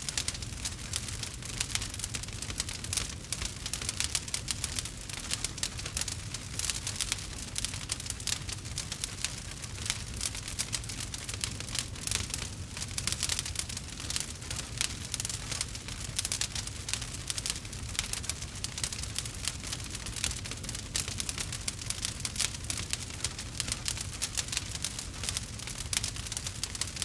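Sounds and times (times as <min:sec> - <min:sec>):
log fire crackling: 0:00.0 - 0:27.0.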